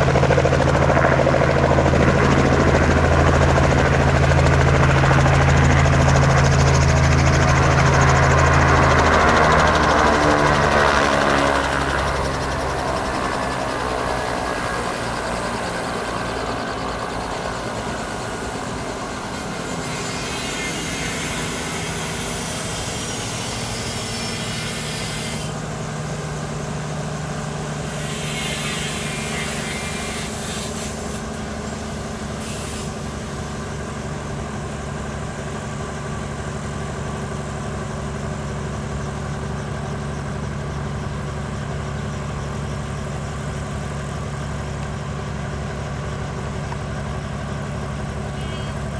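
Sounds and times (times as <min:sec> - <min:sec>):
helicopter engine drone: 0:00.0 - 0:48.9.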